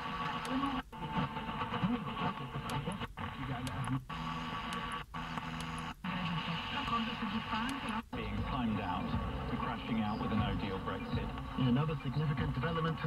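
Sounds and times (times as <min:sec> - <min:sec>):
faint radio voices: 0:00.0 - 0:13.0
radio static: 0:00.0 - 0:13.0.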